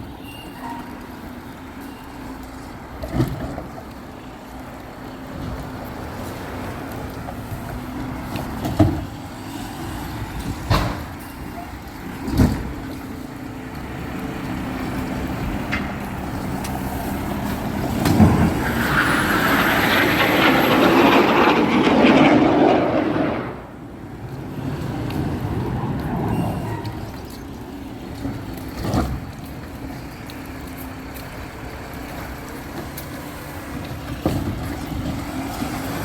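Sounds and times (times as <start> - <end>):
garbage truck engine humming: 1.0 - 20.8, 23.7 - 36.0.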